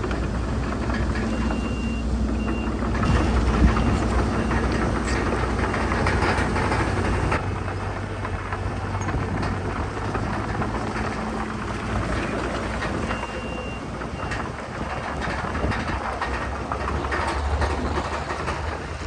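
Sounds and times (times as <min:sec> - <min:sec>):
clanks and rattles: 0:00.0 - 0:19.0
heavy machinery engine drone: 0:00.0 - 0:19.0.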